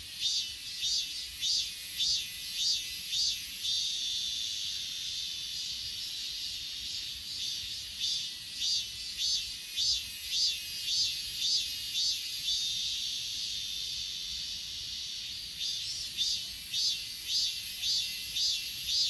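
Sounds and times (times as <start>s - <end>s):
grass insects chirping: 0.0s - 19.0s
high-pitched insect trilling: 0.0s - 19.0s.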